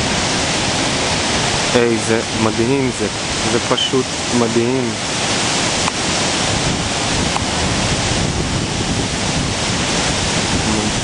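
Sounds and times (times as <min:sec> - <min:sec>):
waterfall rushing: 0:00.0 - 0:11.0
wind buffeting microphone: 0:00.0 - 0:11.0.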